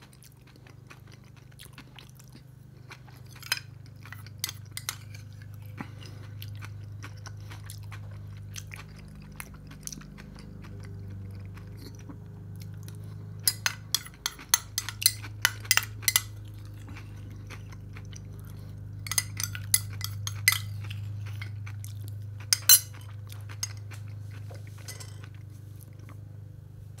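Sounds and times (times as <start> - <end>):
chewing food: 0.0 - 26.4
steady low hum: 0.0 - 27.0.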